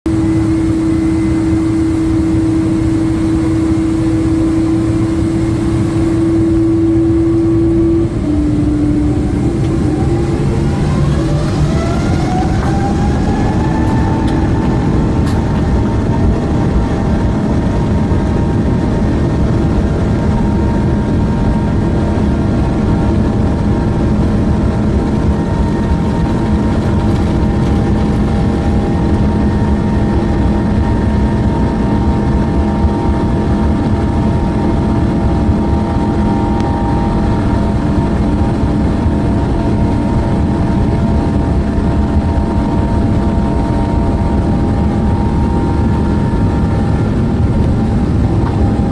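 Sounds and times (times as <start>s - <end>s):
jet engine whine: 0.0s - 48.9s
jet engines rumbling: 0.1s - 48.9s.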